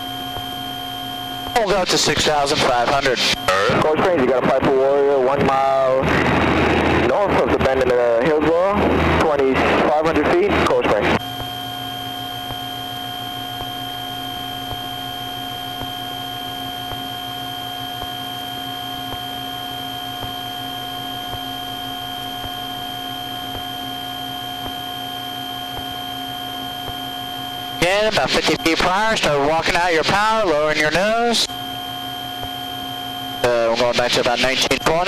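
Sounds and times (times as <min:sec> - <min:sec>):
aircraft cabin engine drone: 0:00.0 - 0:35.0
high-pitched whine: 0:00.0 - 0:35.0.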